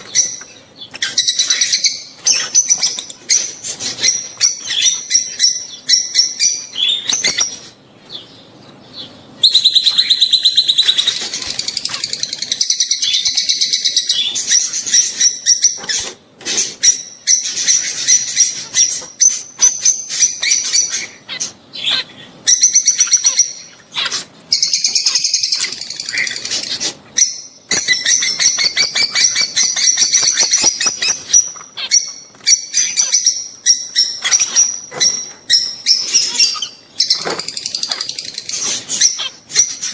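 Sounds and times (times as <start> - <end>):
lovebirds chattering shrill chirps: 0.0 - 39.9.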